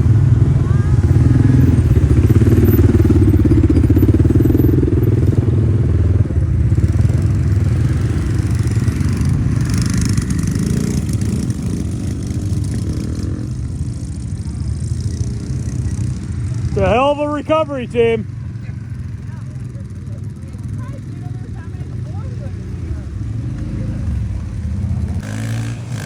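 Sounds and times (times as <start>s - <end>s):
minibike engine running: 0.0s - 26.0s.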